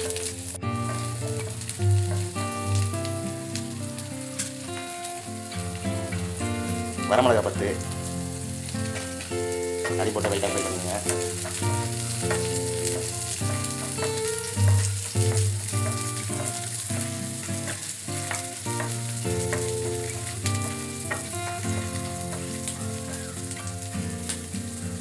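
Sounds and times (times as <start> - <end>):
garlic and chillies sizzling in oil: 0.0 - 25.0
soft background music: 0.0 - 25.0.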